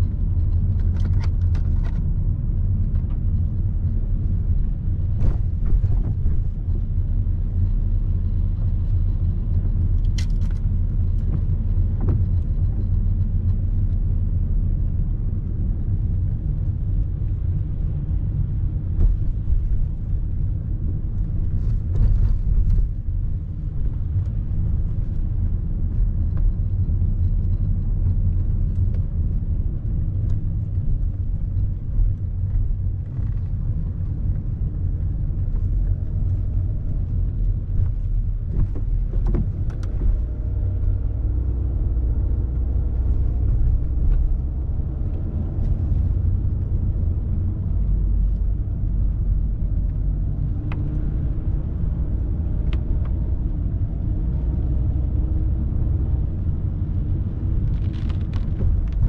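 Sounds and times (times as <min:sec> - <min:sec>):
car cabin road noise: 0:00.0 - 0:59.0.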